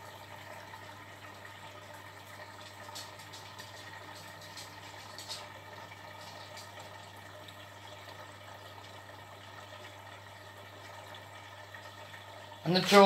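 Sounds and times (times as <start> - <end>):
low machine hum: 0.0 - 13.0
water rushing into washing machine: 0.0 - 13.0.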